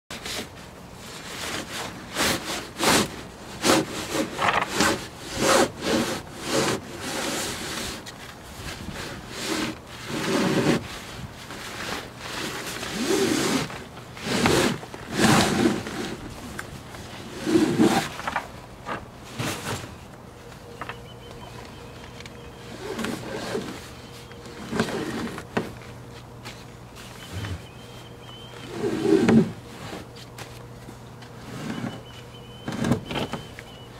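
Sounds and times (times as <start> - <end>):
cloth bag rustling and scraping: 0.2 - 30.8.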